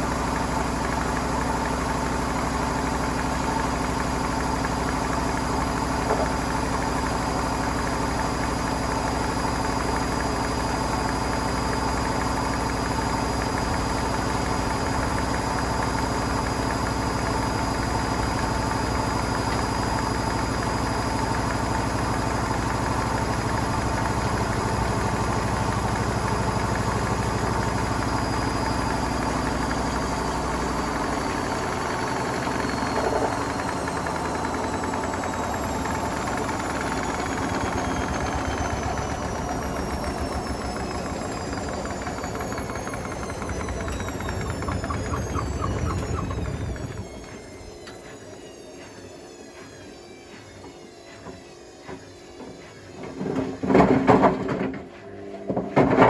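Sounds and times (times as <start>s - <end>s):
washing machine motor hum and whine: 0.0s - 56.0s.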